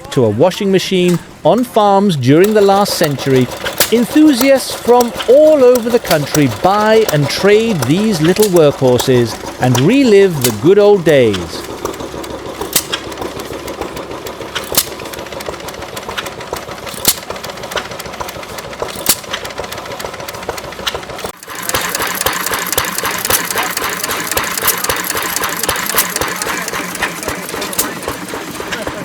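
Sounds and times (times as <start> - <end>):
old gas engines chattering and popping: 0.0 - 29.0.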